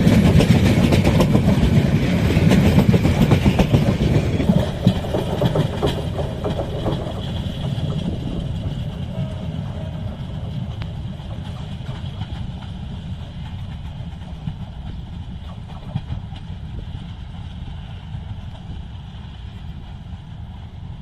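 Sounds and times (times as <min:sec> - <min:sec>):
passenger train rumbling: 0:00.0 - 0:21.0
wind buffeting microphone: 0:00.0 - 0:21.0.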